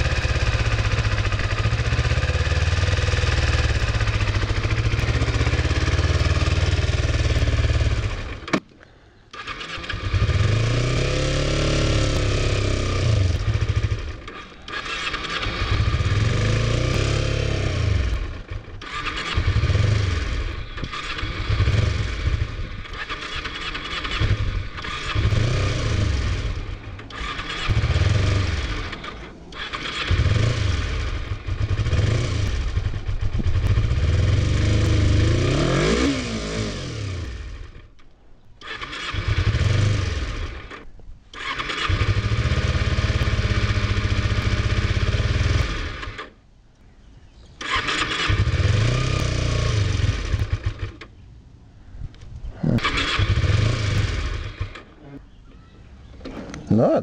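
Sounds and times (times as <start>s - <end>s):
motorcycle engine surging roughly: 0.0s - 8.6s, 9.4s - 37.8s, 38.6s - 46.3s, 47.6s - 51.1s, 52.6s - 55.2s.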